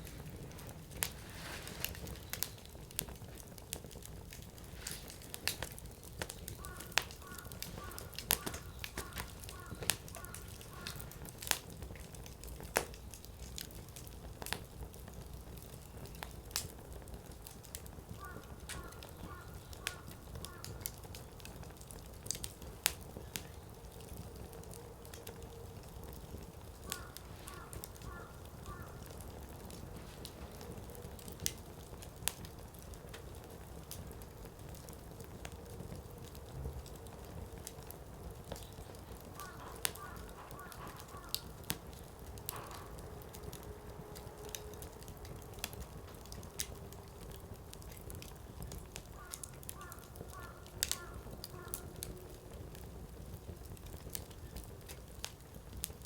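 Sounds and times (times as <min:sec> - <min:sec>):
firewood crackling and popping: 0:00.0 - 0:56.0
low rumble of flames: 0:00.0 - 0:56.0.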